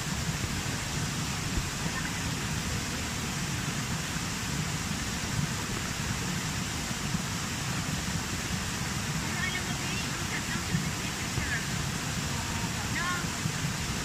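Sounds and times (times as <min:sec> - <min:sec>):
waterfall rushing over rock: 0:00.0 - 0:14.0.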